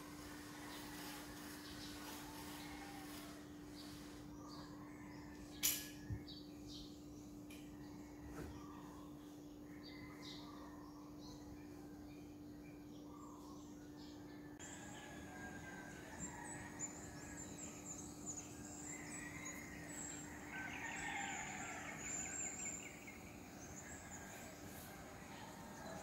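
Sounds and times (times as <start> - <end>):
birds calling and chirping: 0.2 - 26.0.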